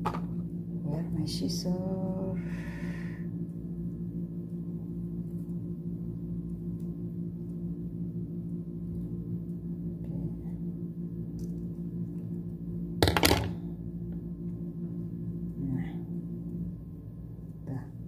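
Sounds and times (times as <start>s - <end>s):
low hum of held tones: 0.0s - 18.0s.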